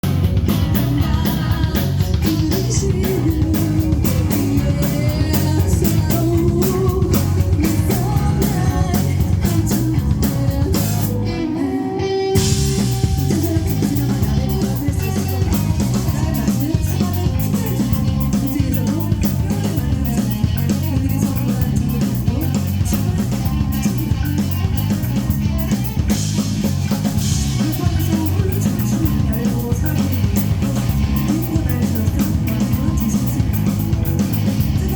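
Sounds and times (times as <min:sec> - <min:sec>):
drum kit: 0:00.0 - 0:11.6, 0:12.3 - 0:34.9
electric guitar: 0:00.0 - 0:34.9.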